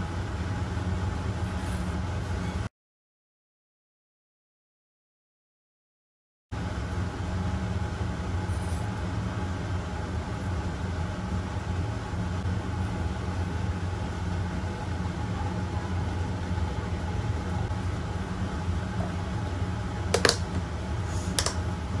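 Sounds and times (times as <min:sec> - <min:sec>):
low mechanical hum: 0:00.0 - 0:02.7, 0:06.5 - 0:22.0.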